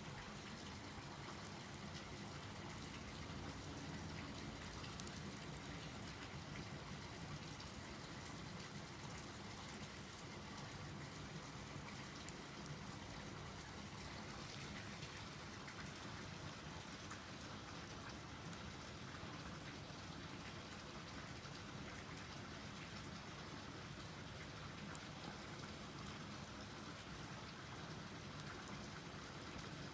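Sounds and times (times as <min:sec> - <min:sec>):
wood fire crackling in a stove: 0:00.0 - 0:29.9.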